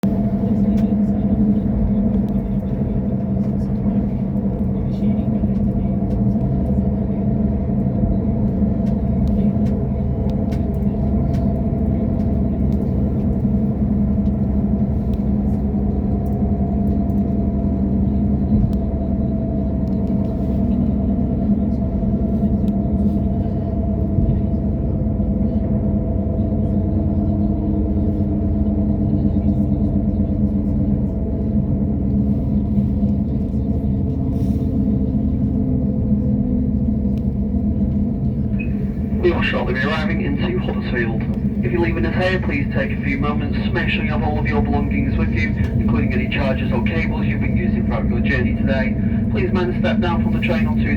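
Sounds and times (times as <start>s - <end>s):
low hum: 0.0s - 50.9s
train rumbling: 0.0s - 50.9s.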